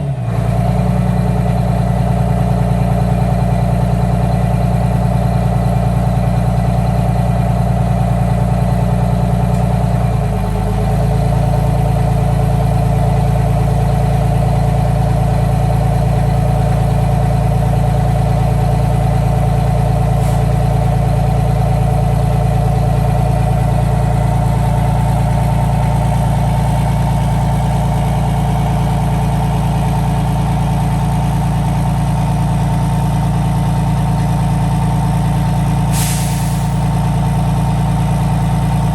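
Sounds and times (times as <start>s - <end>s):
diesel bus engine idling: 0.0s - 38.9s.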